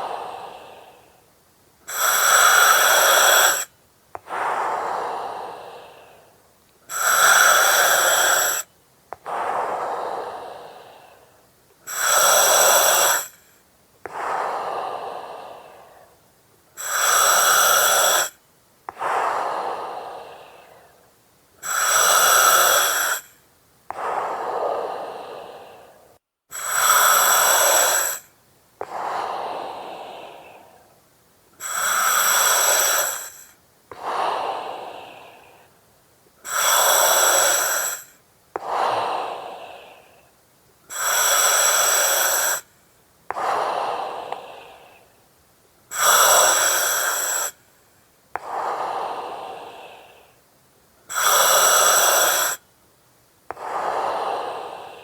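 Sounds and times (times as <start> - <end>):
breathing through oxygen mask: 0.0 - 1.2, 1.9 - 16.2, 16.8 - 21.0, 21.6 - 31.0, 31.6 - 35.8, 36.4 - 42.7, 43.3 - 45.1, 45.9 - 47.7, 48.4 - 50.4, 51.1 - 52.6, 53.5 - 55.0.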